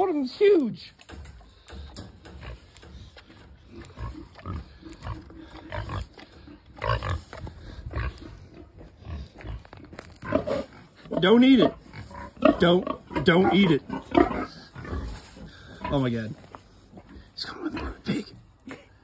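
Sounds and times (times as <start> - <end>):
pig grunting: 1.4 - 16.2, 16.9 - 18.6.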